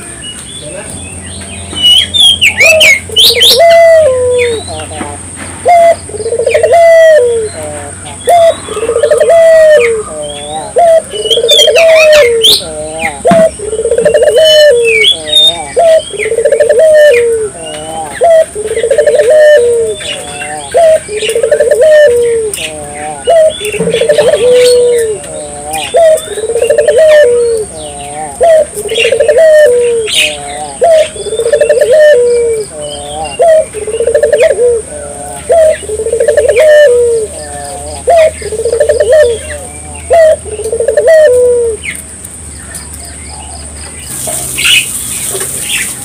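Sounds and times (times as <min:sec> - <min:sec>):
small birds chirping: 0:00.0 - 0:46.0
dove cooing: 0:01.8 - 0:42.0.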